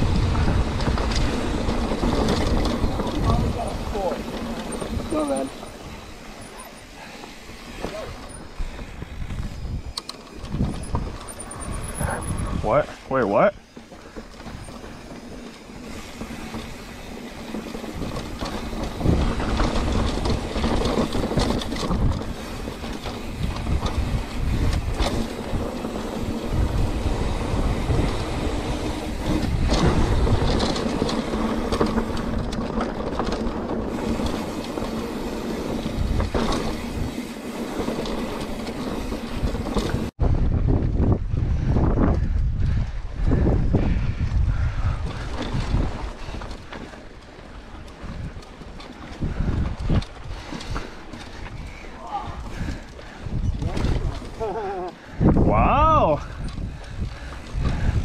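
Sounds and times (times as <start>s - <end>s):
bike clattering over bumps: 0.0s - 58.0s
bike tyres rumbling on dirt: 0.0s - 58.0s
wind buffeting microphone: 0.0s - 58.0s.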